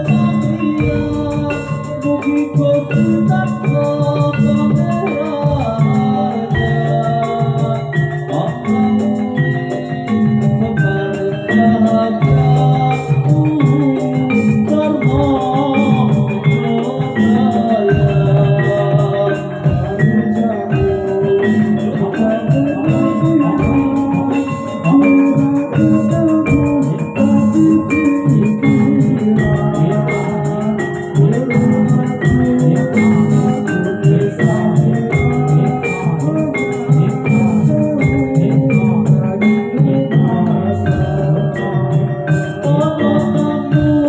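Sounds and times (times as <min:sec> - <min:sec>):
metallophones playing melody: 0:00.0 - 0:44.0.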